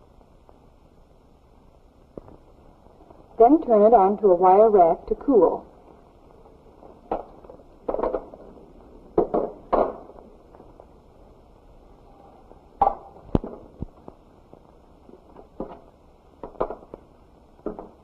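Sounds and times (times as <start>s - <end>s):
film soundtrack hiss: 0.0s - 18.0s.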